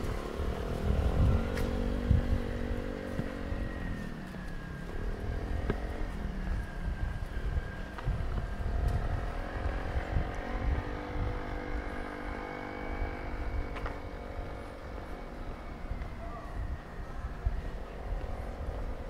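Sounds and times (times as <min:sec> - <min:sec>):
engine humming: 0:00.0 - 0:19.0
low uneven rumble: 0:00.0 - 0:19.0.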